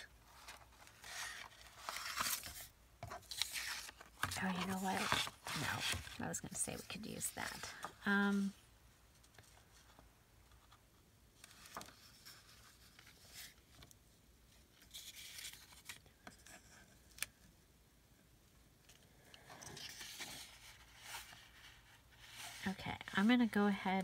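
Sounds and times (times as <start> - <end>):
paper and card rustling: 0.0 - 14.0, 14.6 - 17.4, 19.5 - 23.6.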